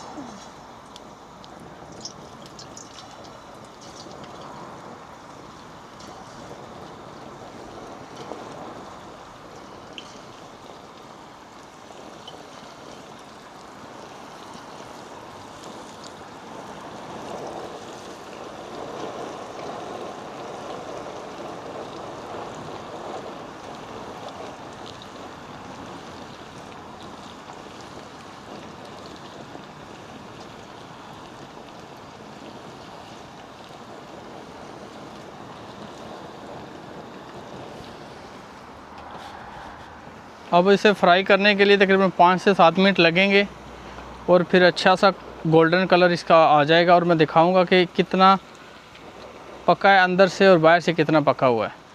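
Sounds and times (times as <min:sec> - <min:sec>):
chicken deep-frying in oil: 0:00.0 - 0:51.9.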